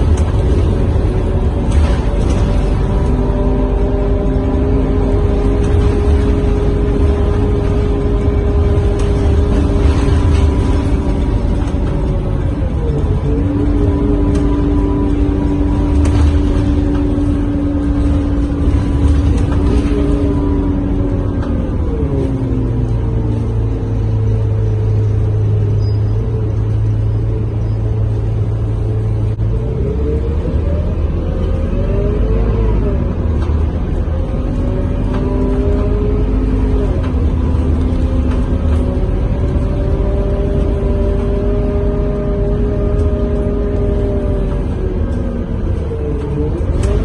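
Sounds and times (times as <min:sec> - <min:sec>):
bus engine rumble from inside: 0:00.0 - 0:47.0.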